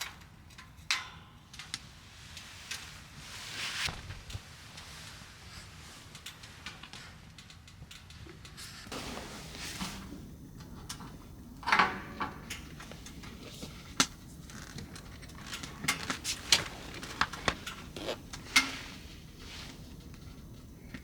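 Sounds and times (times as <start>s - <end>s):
rustling: 1.7s - 7.4s, 8.7s - 21.0s.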